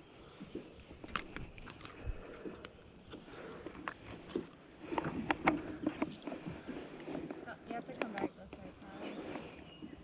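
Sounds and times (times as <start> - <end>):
soft rustle: 0.3 - 10.0.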